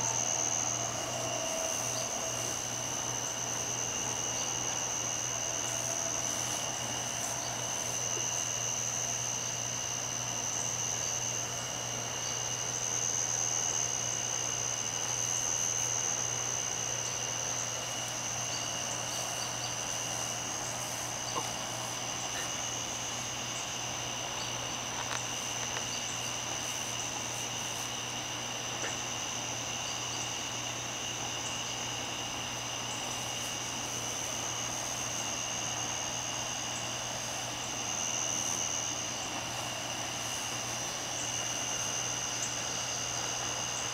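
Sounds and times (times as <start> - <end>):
constant low hum: 0.0 - 43.9
night insects trilling: 0.0 - 43.9.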